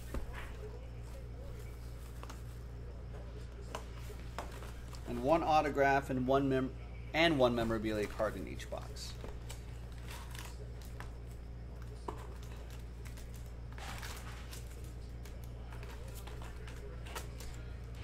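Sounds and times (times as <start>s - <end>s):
rustling of card packs: 0.0s - 6.4s, 7.2s - 18.0s
steady low hum: 0.0s - 18.0s.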